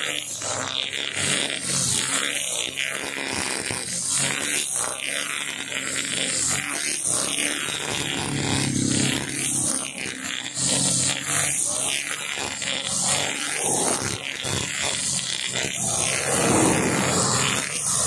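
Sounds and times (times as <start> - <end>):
brush cutter engine running: 0.0 - 18.0.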